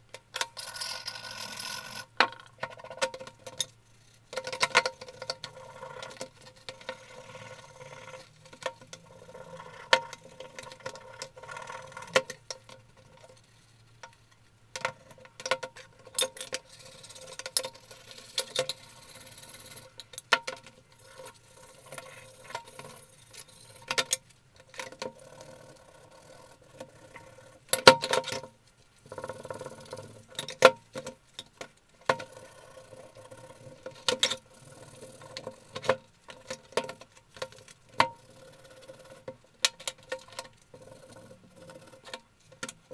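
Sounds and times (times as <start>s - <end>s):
faint steady hum: 0.0s - 42.9s
metal parts clicking and scraping: 0.3s - 42.9s.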